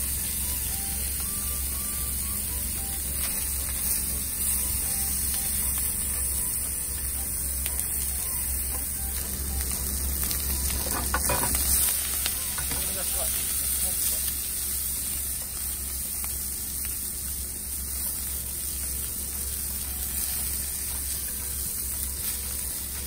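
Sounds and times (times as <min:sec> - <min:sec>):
chicken sizzling in a frying pan: 0:00.0 - 0:23.0
steady low hum: 0:00.0 - 0:23.0.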